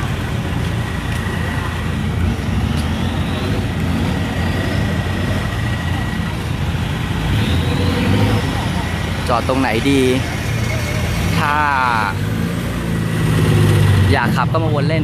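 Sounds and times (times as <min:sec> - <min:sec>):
low rumble of vehicle engines: 0:00.0 - 0:15.0.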